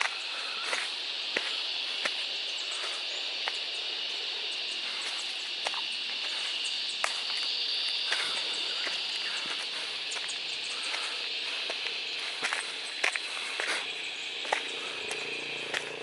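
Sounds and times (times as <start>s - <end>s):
insect chorus droning: 0.0s - 16.0s.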